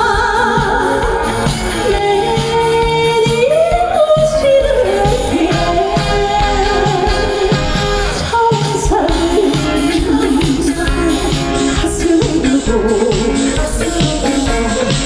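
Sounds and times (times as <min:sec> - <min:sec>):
backing track with steady beat: 0:00.0 - 0:15.0
woman singing: 0:00.0 - 0:15.0.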